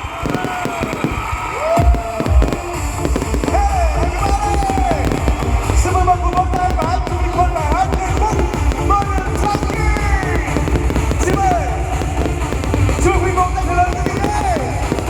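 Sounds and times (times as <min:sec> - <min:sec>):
fireworks bursting and booming: 0:00.0 - 0:15.0
loud music from sound system: 0:00.0 - 0:15.0.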